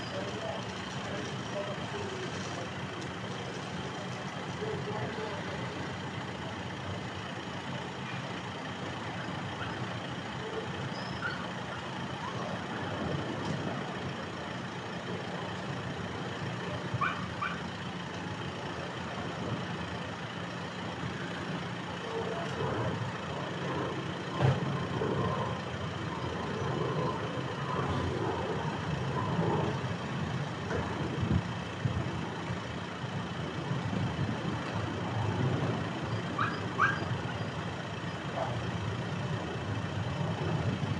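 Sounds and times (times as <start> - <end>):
street noise: 0.0 - 40.9
vehicle engine idling: 0.0 - 40.9.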